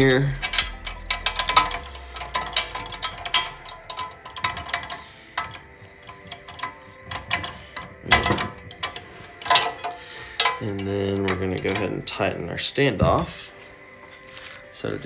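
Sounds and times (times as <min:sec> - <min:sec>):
metallic clicks of hand tools: 0:00.0 - 0:12.2
metal tool clatter: 0:00.0 - 0:13.4.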